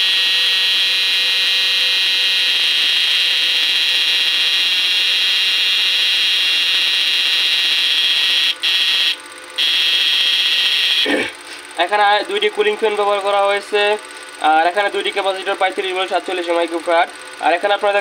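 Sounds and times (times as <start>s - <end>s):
high-pitched electrical whine: 0.0s - 18.0s.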